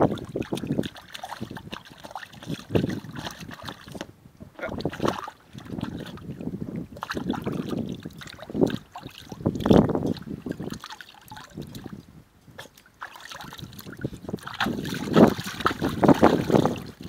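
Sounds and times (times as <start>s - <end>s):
water splashing in paddling pool: 0.0s - 17.0s.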